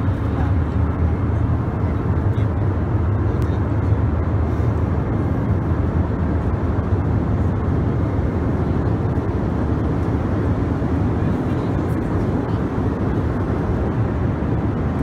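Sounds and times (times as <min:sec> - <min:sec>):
airplane engine roar: 0:00.0 - 0:15.0.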